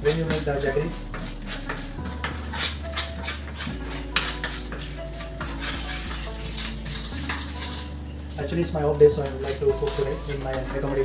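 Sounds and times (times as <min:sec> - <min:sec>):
spoon scraping a frying pan: 0:00.0 - 0:11.0.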